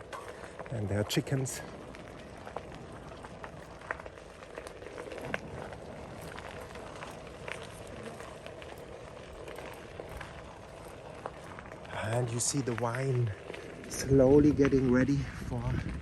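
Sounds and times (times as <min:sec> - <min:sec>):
bicycle clicks and rattles: 0:00.0 - 0:16.0
bicycle rolling: 0:00.0 - 0:16.0.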